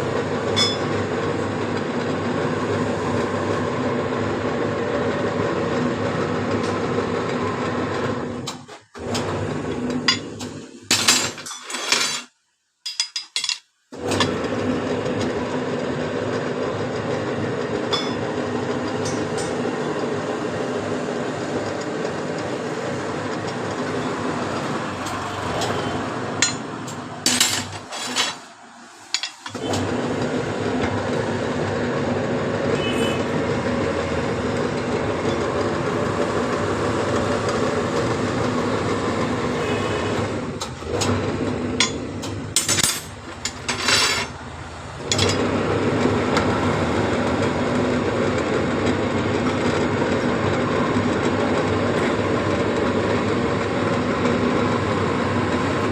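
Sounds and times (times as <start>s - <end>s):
workshop machine humming: 0.0s - 12.3s, 12.9s - 55.9s.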